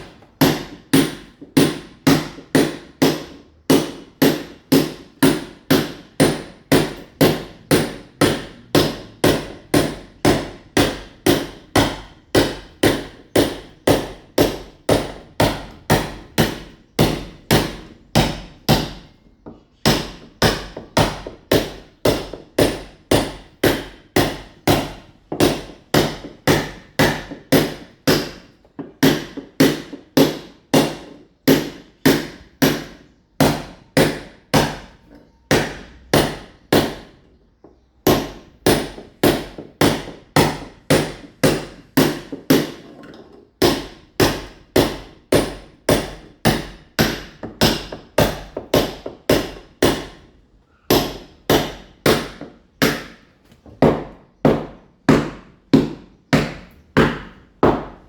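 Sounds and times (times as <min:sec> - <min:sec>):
hammer chipping masonry wall: 0:00.0 - 0:58.0.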